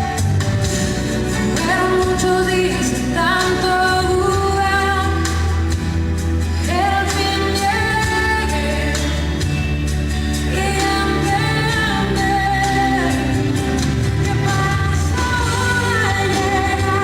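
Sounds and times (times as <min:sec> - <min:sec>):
sustained bass chords: 0:00.0 - 0:17.0
woman singing: 0:01.2 - 0:05.8, 0:06.6 - 0:09.6, 0:10.4 - 0:17.0.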